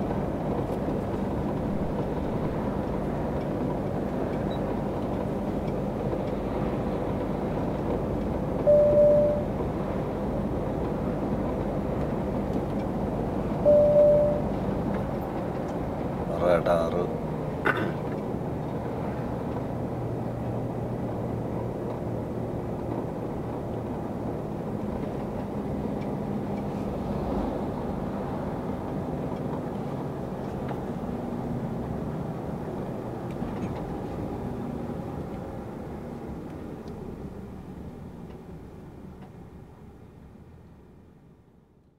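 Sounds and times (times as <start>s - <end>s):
truck engine driving: 0.0s - 41.7s.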